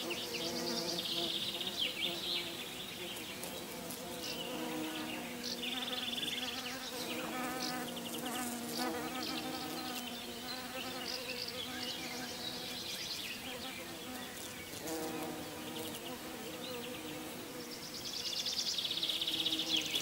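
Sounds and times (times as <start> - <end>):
bees buzzing: 0.0 - 18.0, 19.0 - 20.0.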